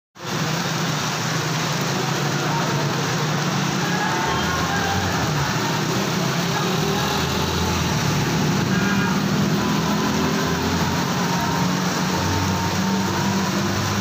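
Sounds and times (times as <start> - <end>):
heavy rain hissing: 0.2 - 14.0
vehicle engine humming: 0.2 - 14.0.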